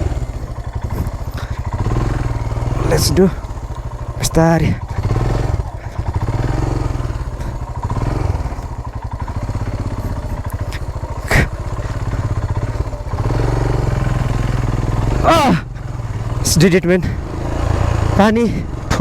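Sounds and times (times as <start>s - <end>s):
motorcycle engine running slowly: 0.0s - 19.0s.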